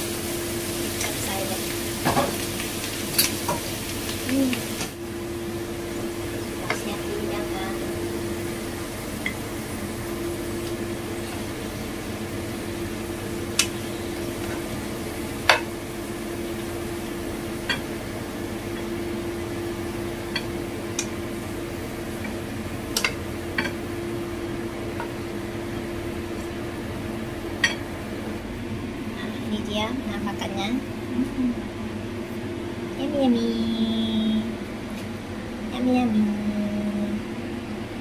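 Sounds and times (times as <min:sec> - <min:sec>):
faint sizzling: 0:00.0 - 0:37.2
steady low hum: 0:00.0 - 0:38.0.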